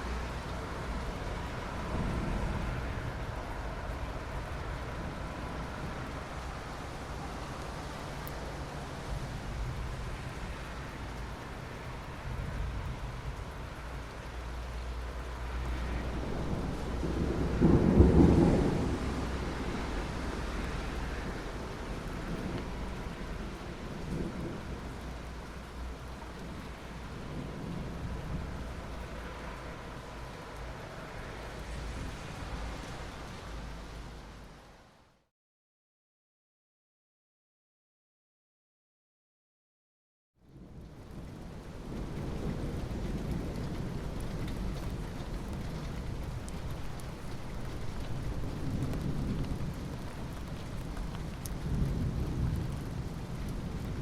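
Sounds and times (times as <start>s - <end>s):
low rumble of thunder: 0.0s - 33.6s, 40.5s - 54.0s
rain hiss: 0.0s - 35.2s, 40.6s - 54.0s.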